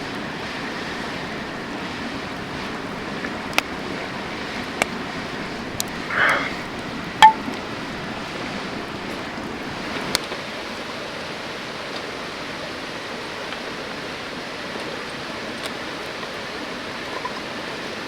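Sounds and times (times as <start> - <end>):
river rushing water: 0.8 - 18.0.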